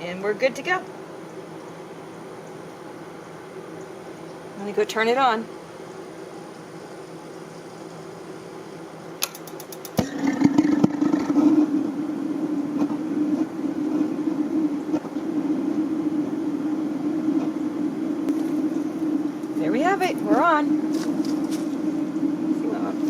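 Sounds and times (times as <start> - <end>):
gas burner burning loudly: 2.7 - 23.0.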